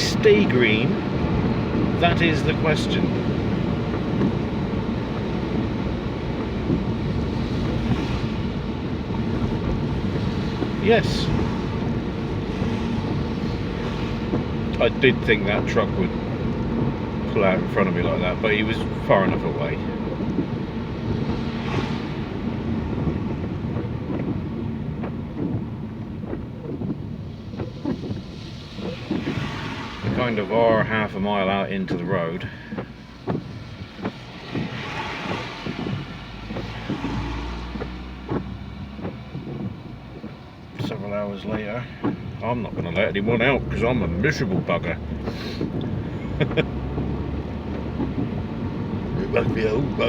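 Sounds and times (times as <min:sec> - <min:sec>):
car driving on wet road: 0:00.0 - 0:50.0
rain noise: 0:00.0 - 0:50.0.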